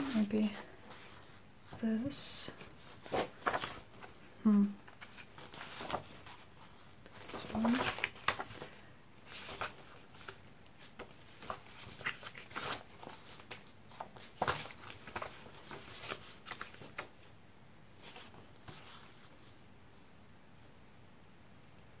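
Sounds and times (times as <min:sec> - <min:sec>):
paper sheets rustling: 0:00.0 - 0:04.2, 0:04.9 - 0:17.2, 0:18.0 - 0:19.3.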